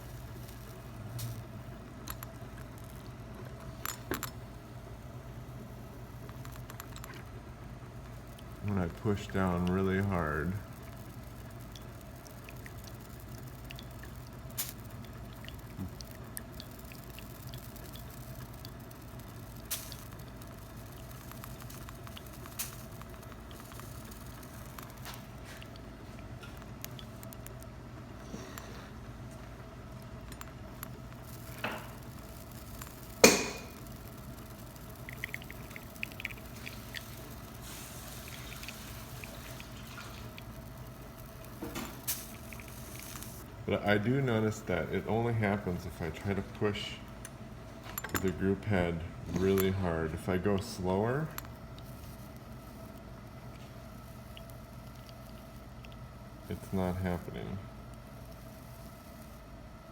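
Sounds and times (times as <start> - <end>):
espresso dripping into cup: 0.0 - 27.7, 30.0 - 46.8, 47.9 - 59.6
steady low hum: 0.0 - 59.9.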